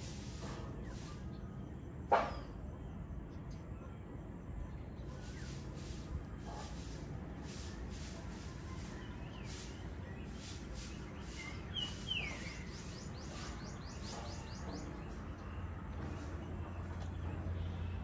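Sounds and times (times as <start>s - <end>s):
bird chirping: 0.0s - 18.0s
outdoor background noise: 0.0s - 18.0s.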